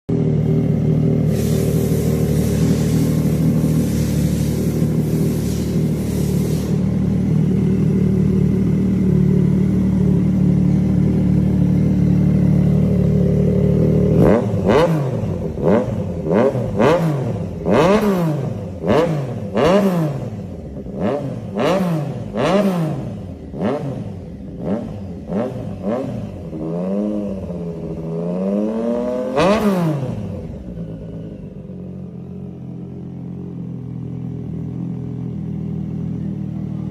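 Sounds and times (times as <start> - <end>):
sport motorcycle engine revving: 0.1 - 36.9.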